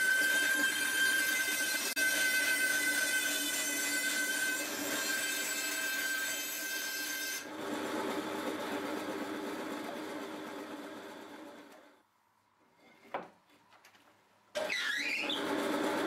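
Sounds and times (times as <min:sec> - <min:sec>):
bandsaw blade whining in wood: 0:00.0 - 0:11.9, 0:14.6 - 0:16.0.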